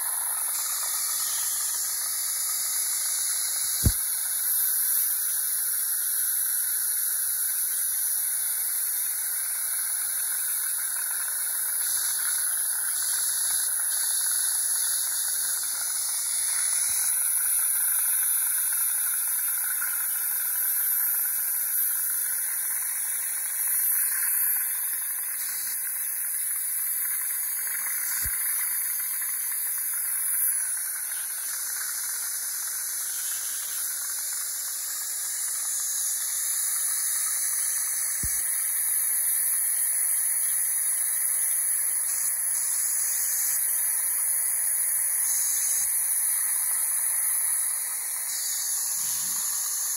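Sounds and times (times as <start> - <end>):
dental suction hissing: 0.0 - 49.9
ultrasonic scaler spraying water: 0.0 - 49.9.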